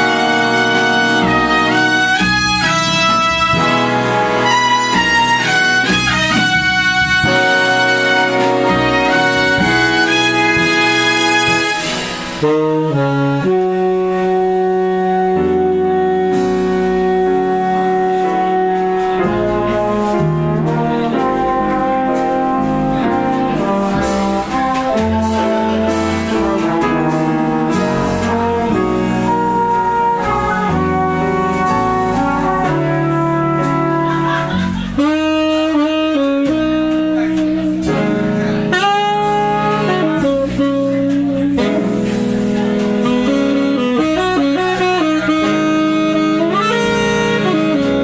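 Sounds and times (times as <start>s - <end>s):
big band jazz: 0.0s - 48.0s.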